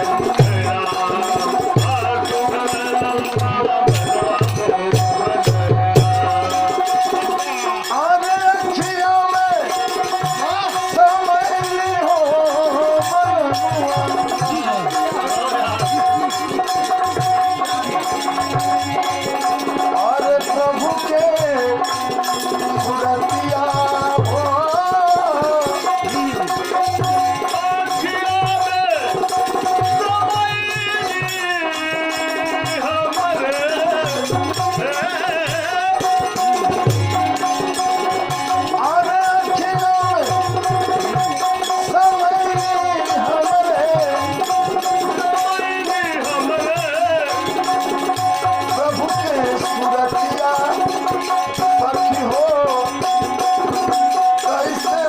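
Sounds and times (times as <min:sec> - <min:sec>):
rattling percussion: 0:00.0 - 0:55.0.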